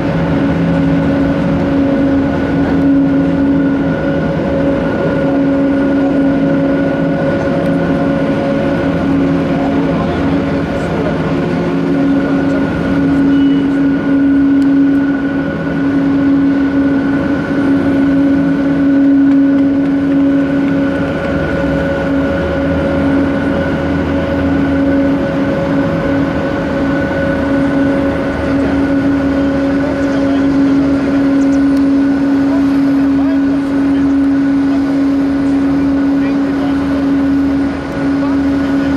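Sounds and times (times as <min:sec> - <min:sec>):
faint high whine: 0:00.0 - 0:38.9
low machinery hum: 0:00.0 - 0:38.9.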